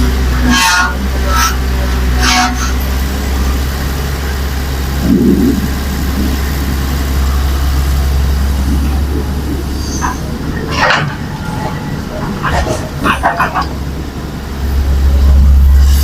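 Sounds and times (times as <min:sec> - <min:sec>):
heavy diesel engine humming: 0:00.0 - 0:16.0.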